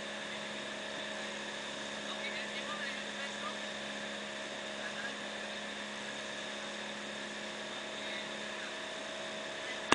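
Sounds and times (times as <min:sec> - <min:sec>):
boat engine droning: 0:00.0 - 0:09.9.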